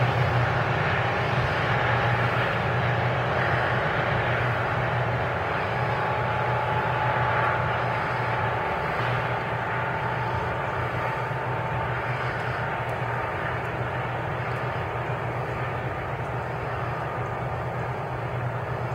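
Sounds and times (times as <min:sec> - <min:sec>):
faint high whine: 0:00.0 - 0:18.9
train rumbling on rails: 0:00.0 - 0:18.9.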